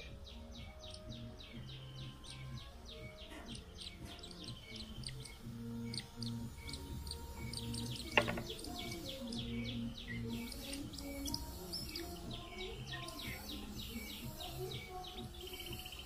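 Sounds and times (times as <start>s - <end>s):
nestling birds begging calls: 0.0s - 16.0s.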